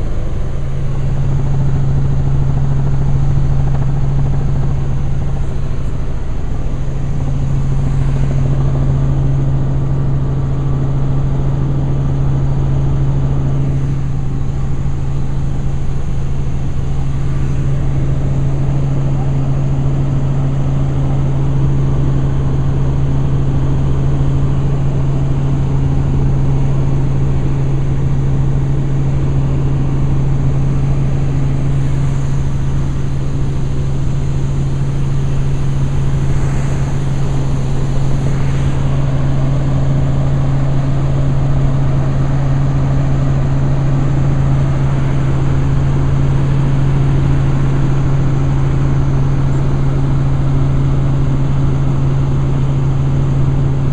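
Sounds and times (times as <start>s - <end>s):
helicopter rotor and engine drone: 0.0s - 53.9s.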